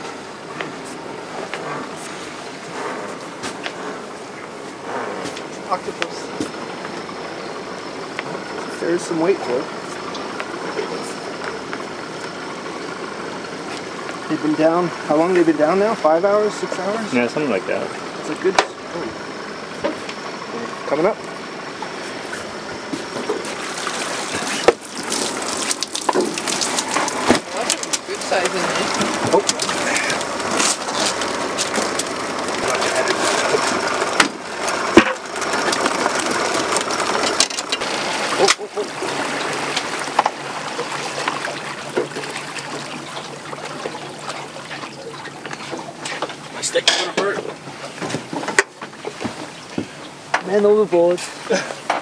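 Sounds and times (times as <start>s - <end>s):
water streaming and dripping: 0.0s - 20.7s, 21.8s - 52.0s.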